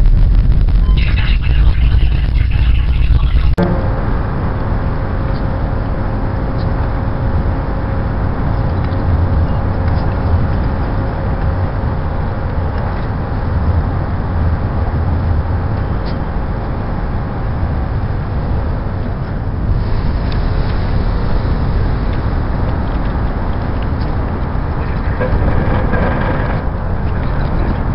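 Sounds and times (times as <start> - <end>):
low rumbling of docked ferry: 0.0 - 27.9.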